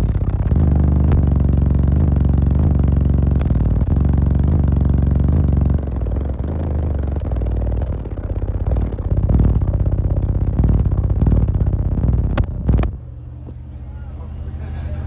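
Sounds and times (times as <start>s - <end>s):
rattle: 0.0s - 13.8s
bass-heavy music from subwoofers: 0.0s - 15.0s.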